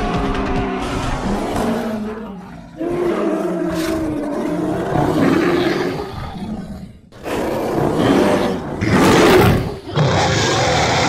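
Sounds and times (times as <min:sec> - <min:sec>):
deep rough creature roars: 0:00.0 - 0:11.0.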